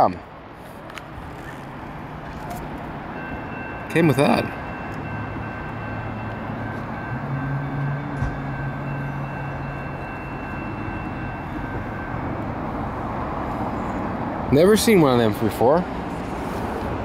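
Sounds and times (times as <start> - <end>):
rushing background noise: 0.0 - 17.0.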